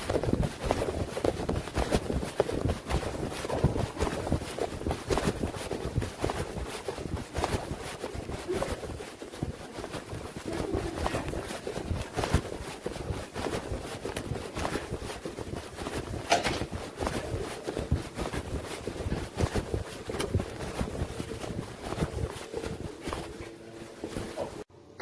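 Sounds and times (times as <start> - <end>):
footsteps: 0.0 - 24.7
rustling handling noise: 0.0 - 24.7.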